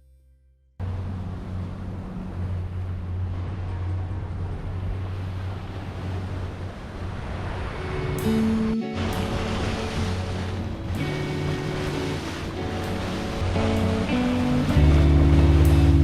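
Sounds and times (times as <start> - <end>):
boat engine droning: 0.8 - 16.0
water rushing: 0.8 - 16.0
wind: 0.8 - 16.0.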